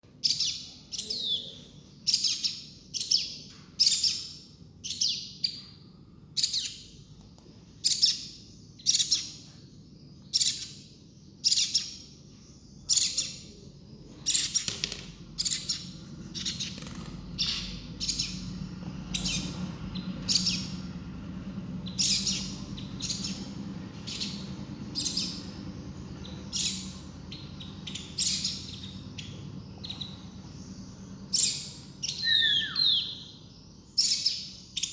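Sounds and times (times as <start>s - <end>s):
baby birds chirping: 0.2s - 5.8s, 6.4s - 34.9s.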